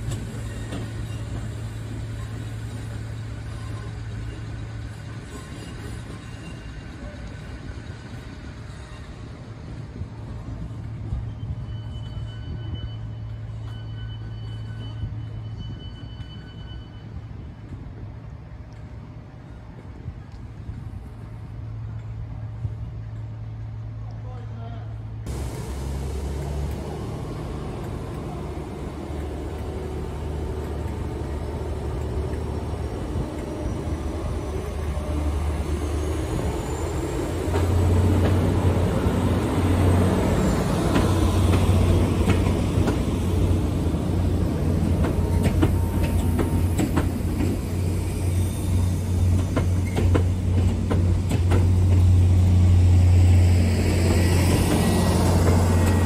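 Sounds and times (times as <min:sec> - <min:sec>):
train low drone: 0:00.0 - 0:56.0.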